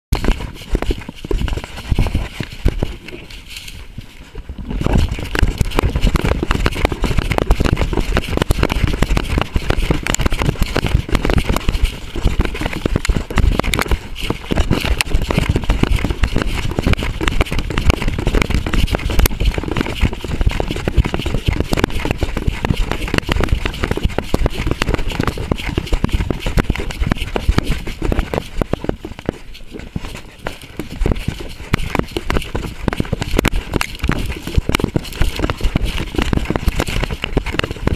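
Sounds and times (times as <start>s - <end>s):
camera jostling: 0.1s - 37.9s
brush crackling: 0.2s - 37.9s.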